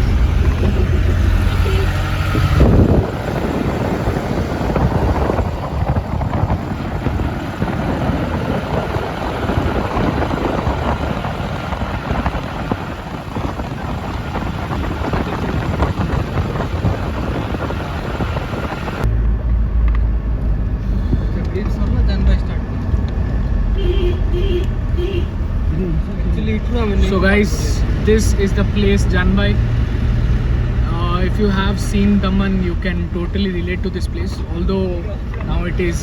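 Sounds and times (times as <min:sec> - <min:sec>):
deep steady rumble: 0:00.0 - 0:36.0
vehicle road noise: 0:00.0 - 0:36.0
wind rushing over microphone: 0:00.0 - 0:36.0.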